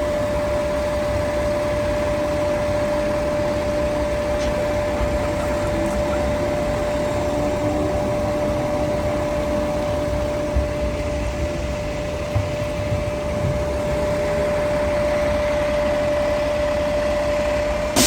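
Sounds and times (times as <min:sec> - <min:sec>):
vehicle mechanical hum: 0:00.0 - 0:18.0.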